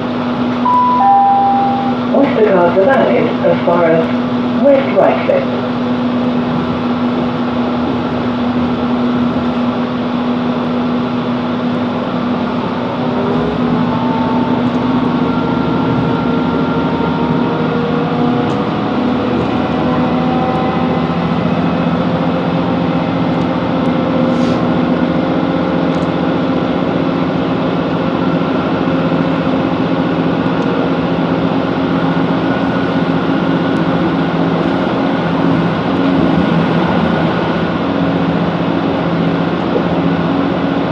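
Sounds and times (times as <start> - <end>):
train diesel engine running: 0.0 - 40.9.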